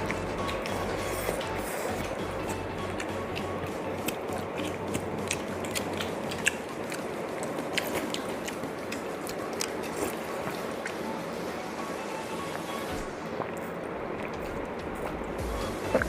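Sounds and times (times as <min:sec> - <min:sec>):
crunchy food being chewed: 0:00.0 - 0:11.6, 0:12.4 - 0:16.0.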